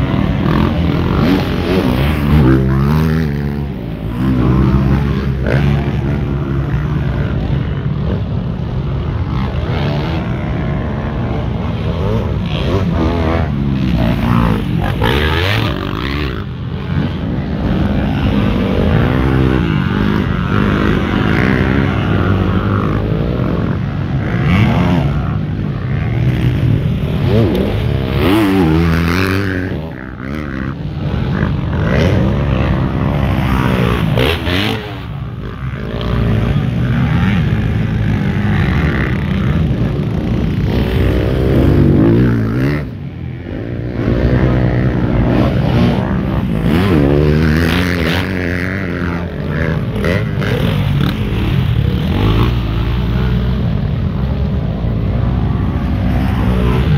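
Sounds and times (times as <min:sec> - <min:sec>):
motocross motorcycles revving: 0:00.0 - 0:56.9.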